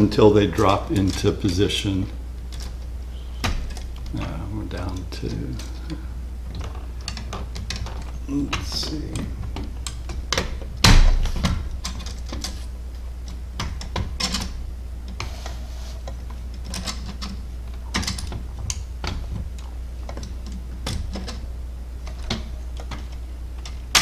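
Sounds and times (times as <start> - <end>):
steady low hum: 0.0 - 24.0
plastic parts clicking: 2.5 - 24.0.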